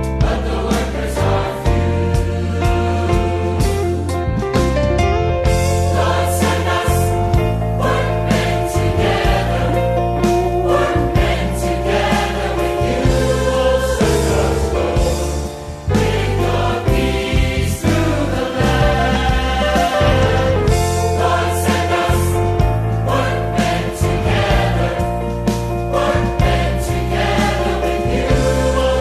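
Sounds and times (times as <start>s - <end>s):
choir singing: 0.0s - 4.1s, 5.6s - 29.0s
instrumental accompaniment: 0.0s - 29.0s
sustained bass line: 0.0s - 29.0s.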